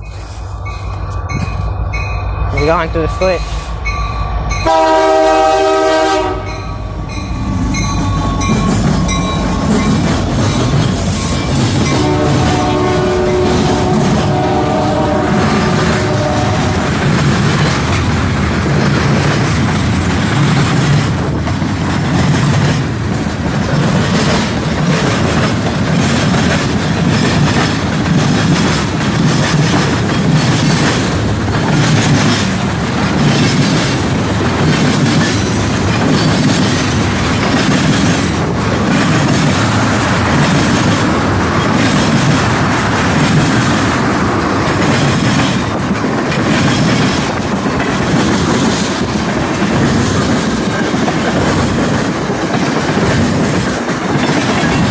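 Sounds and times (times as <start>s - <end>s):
train rolling past: 0.0s - 54.9s
wheels clacking over rail joints: 7.1s - 54.9s.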